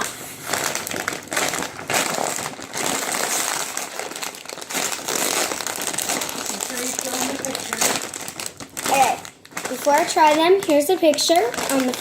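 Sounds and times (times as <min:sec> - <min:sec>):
plastic chip bag crinkling: 0:00.0 - 0:12.0.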